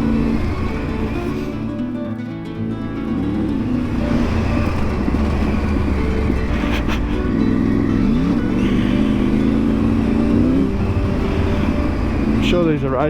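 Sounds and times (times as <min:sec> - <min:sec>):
motorcycle engine: 0:00.0 - 0:13.0
wind and road noise: 0:00.0 - 0:13.0.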